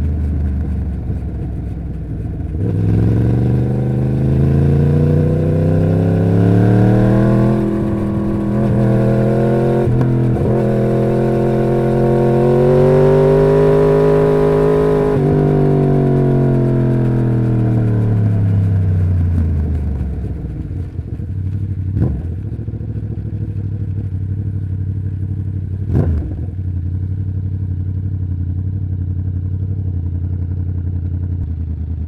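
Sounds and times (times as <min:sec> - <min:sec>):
motorcycle engine revving: 0:00.0 - 0:28.4.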